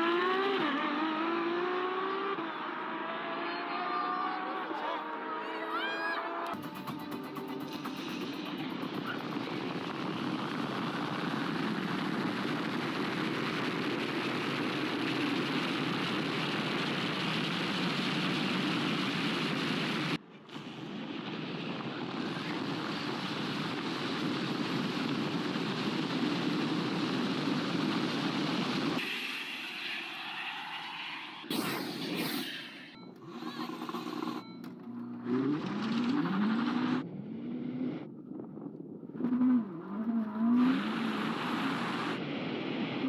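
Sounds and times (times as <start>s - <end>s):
road and wind rush: 0.0s - 6.6s, 7.4s - 20.3s, 21.0s - 43.0s.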